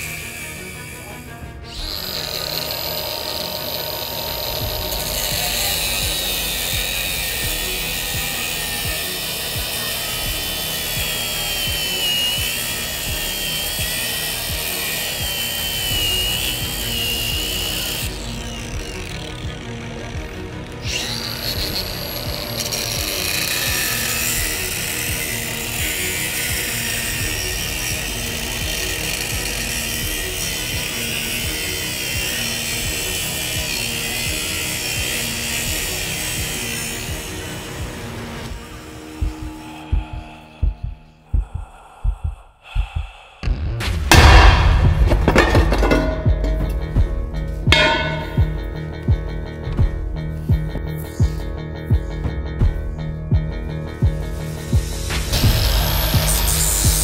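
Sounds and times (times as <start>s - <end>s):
angle grinder cutting metal: 0.0s - 39.9s, 44.1s - 46.9s, 47.8s - 48.8s, 54.4s - 57.0s
background music with deep beat: 0.0s - 57.0s.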